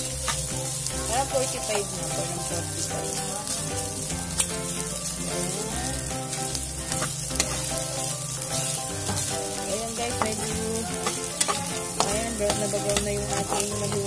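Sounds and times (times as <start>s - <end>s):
background music: 0.0s - 14.0s
meat and onion sizzling in pan: 0.0s - 14.0s.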